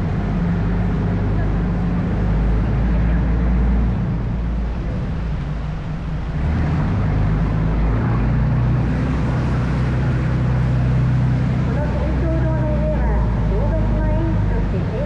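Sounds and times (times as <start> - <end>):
boat engine humming: 0.0 - 15.0
water rushing: 0.0 - 15.0.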